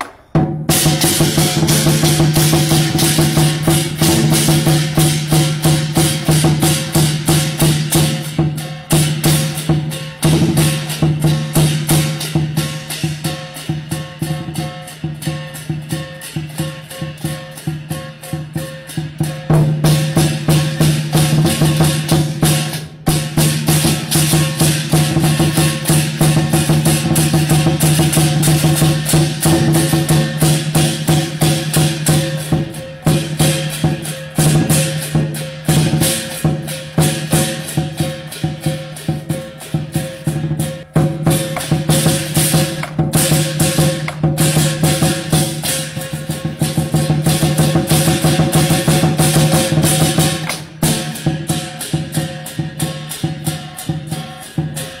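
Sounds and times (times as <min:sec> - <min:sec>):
instrumental music with fast beat: 0:00.0 - 0:55.0.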